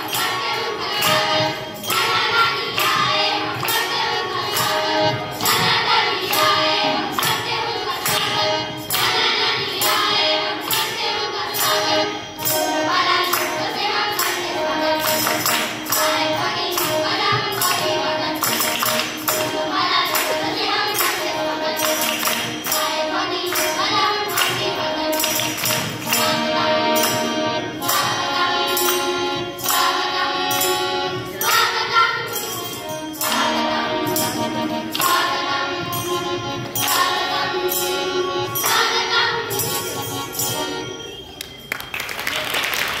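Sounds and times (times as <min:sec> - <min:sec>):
children singing together: 0:00.0 - 0:41.2
harmonium: 0:00.0 - 0:41.3
jingling percussion beat: 0:00.0 - 0:43.0.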